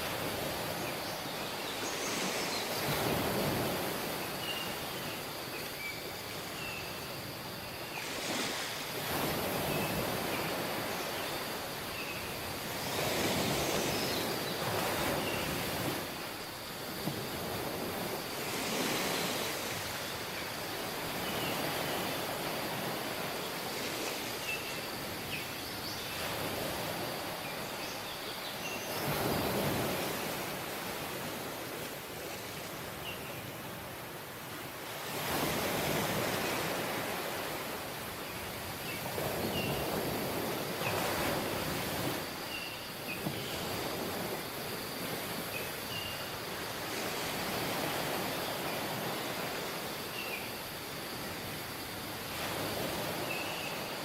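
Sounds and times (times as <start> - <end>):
waves washing on beach: 0.0 - 54.0.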